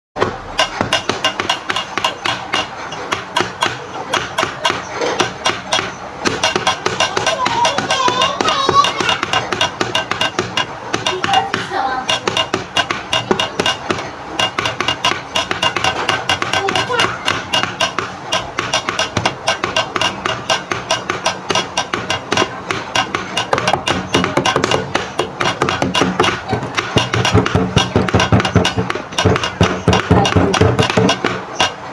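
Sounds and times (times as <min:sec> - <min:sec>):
fast percussive beat of claps: 0:00.2 - 0:31.9.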